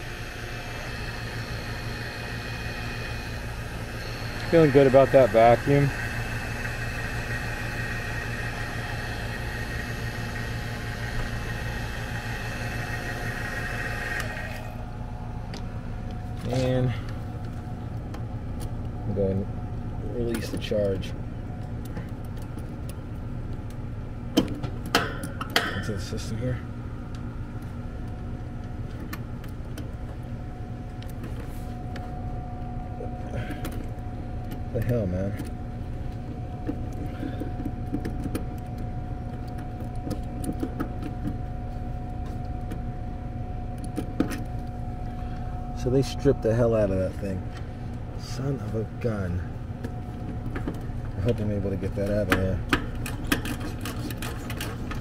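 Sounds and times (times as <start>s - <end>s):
vacuum pump hissing and humming: 0.0s - 22.2s, 24.4s - 55.0s
thin steady whine: 0.0s - 55.0s.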